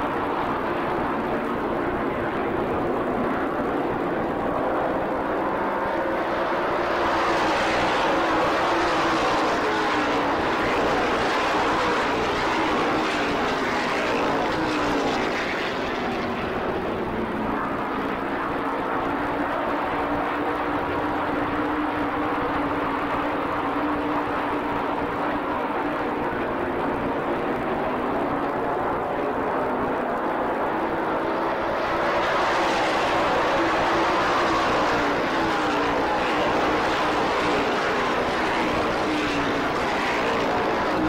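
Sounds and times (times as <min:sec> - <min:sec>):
race car engines at speed: 0:00.0 - 0:41.0.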